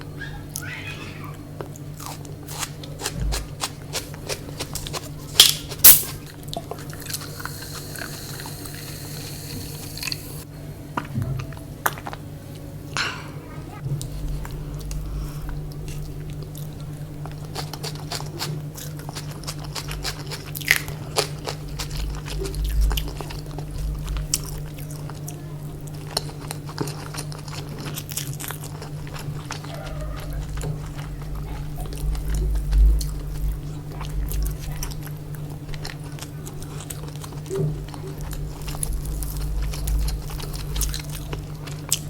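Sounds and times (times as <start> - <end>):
steady low hum: 0.0 - 42.0
chewing and biting food: 1.6 - 10.3, 15.8 - 42.0.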